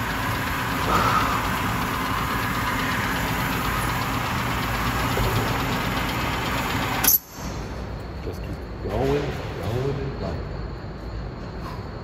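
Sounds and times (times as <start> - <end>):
mechanical rumble and hiss: 0.0 - 12.0.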